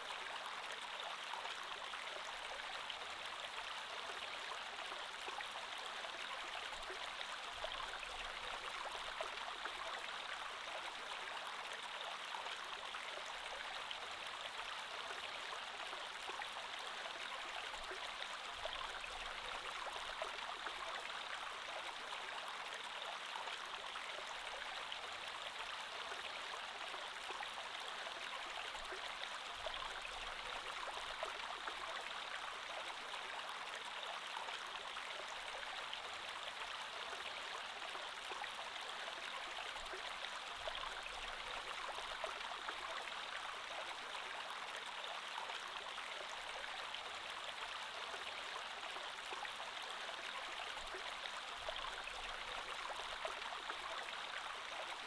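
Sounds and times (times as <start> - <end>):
creek water flowing over stones: 0.0 - 55.0.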